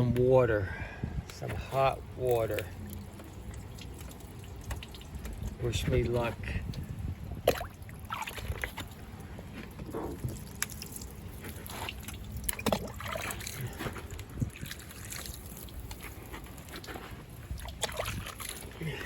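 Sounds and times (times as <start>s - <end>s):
water trickling and splashing: 1.2s - 19.0s.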